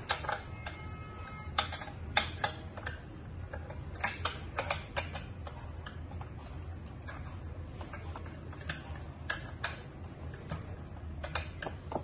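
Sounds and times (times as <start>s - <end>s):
low steady hum: 0.0s - 12.0s
metal pedal clicking and tapping: 0.0s - 12.0s.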